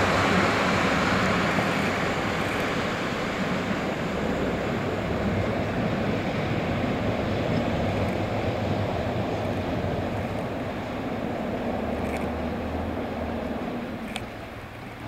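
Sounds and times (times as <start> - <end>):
diesel train rumbling along track: 0.0 - 15.0.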